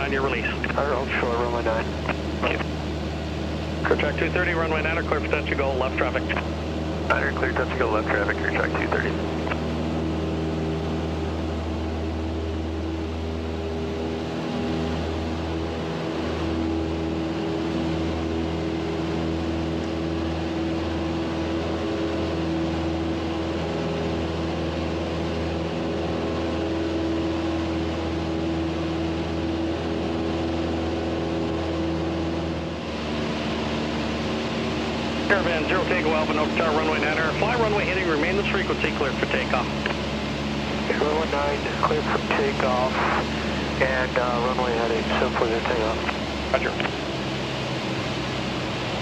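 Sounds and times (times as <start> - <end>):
propeller plane engine drone: 0.0 - 49.0.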